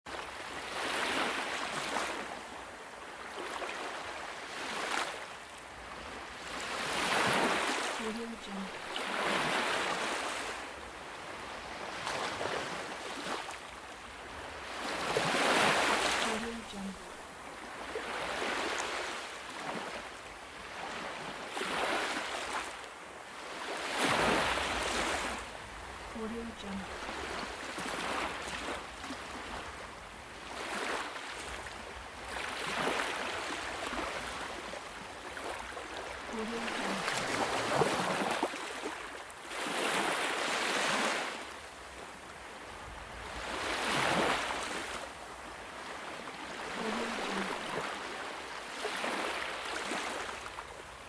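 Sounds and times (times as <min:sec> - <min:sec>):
ocean waves washing in: 0:00.1 - 0:51.0
rushing water: 0:00.1 - 0:51.0.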